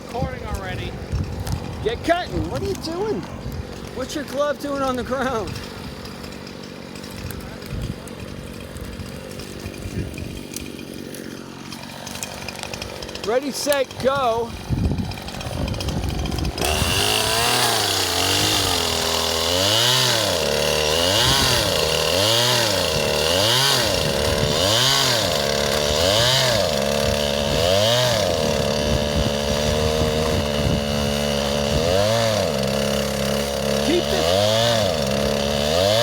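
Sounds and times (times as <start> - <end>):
chainsaw revving and cutting wood: 0.0 - 36.0.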